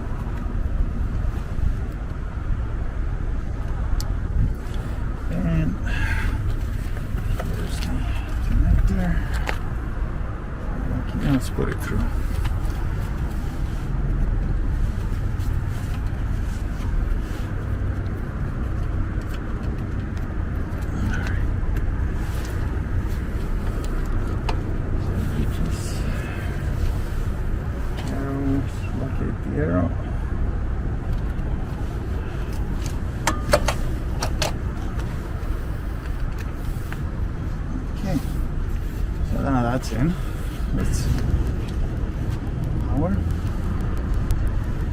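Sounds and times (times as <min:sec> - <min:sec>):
low outdoor rumble: 0:00.0 - 0:44.9.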